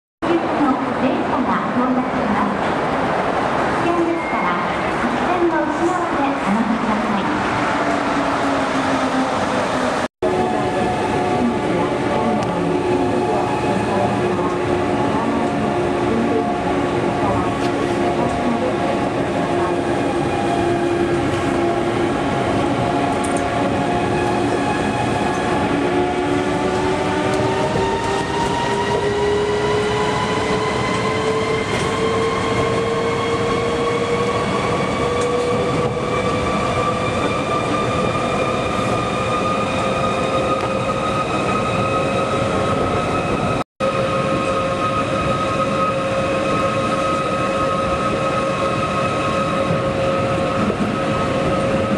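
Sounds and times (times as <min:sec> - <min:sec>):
train running noise: 0:00.2 - 0:51.9.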